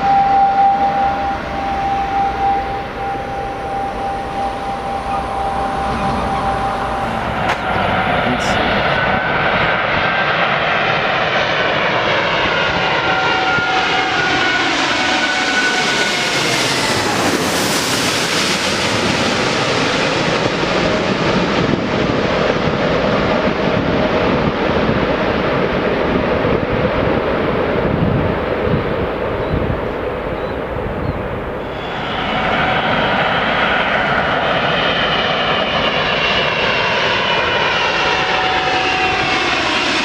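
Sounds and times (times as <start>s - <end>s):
jet airliner passing: 0.0s - 40.0s
jet engine whine: 0.0s - 40.0s.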